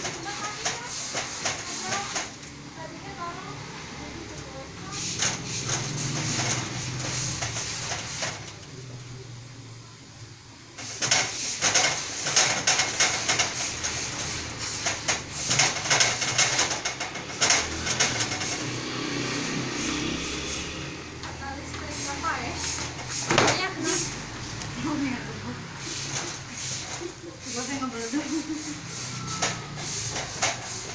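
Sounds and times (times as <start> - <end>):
steam irons hissing: 0.0 - 2.4, 4.8 - 8.5, 10.8 - 30.9.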